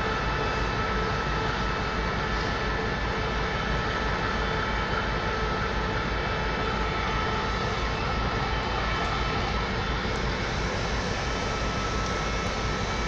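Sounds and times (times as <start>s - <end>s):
train running rumble and whine: 0.0s - 13.0s.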